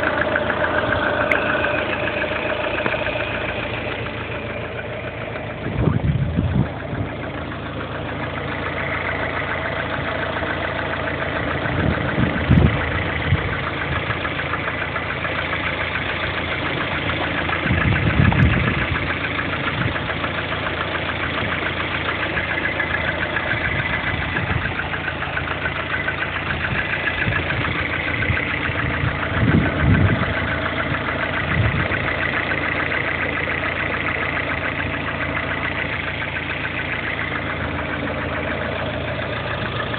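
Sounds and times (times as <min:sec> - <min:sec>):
car engine idling with rapid knock: 0:00.0 - 0:39.9.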